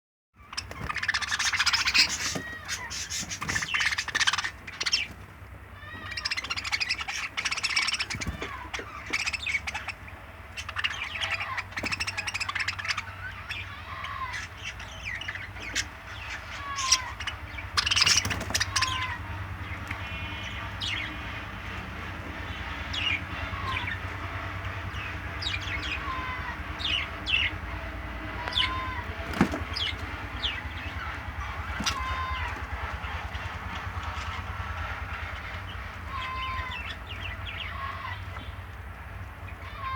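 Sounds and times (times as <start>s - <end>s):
pet birds chirping: 0.4s - 39.9s
steady low hum: 0.4s - 39.9s.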